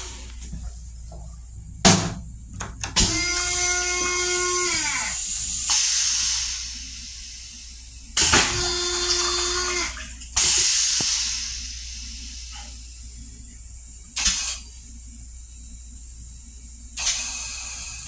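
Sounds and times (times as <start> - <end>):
toilet flushing with hissing spray: 0.0 - 18.0.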